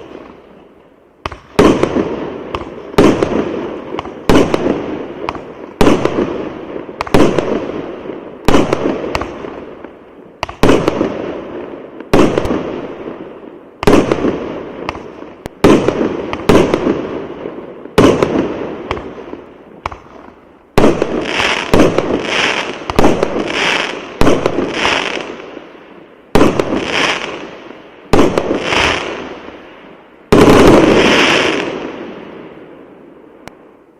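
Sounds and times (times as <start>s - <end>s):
fireworks banging: 1.2s - 25.4s, 26.3s - 29.6s, 30.3s - 32.3s.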